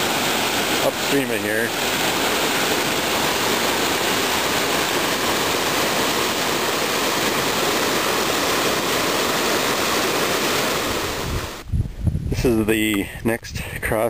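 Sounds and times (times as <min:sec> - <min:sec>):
water rushing over rocks: 0:00.0 - 0:11.6.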